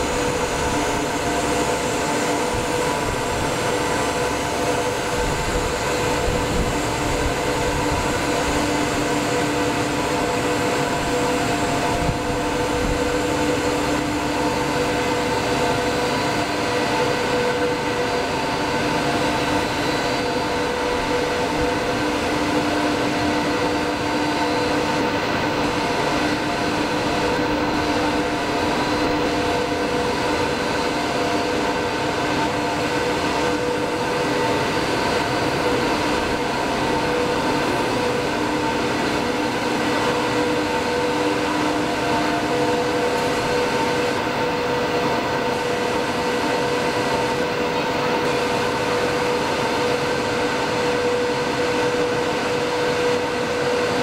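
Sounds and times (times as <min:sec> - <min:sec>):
wire drawing machine humming: 0:00.0 - 0:54.0.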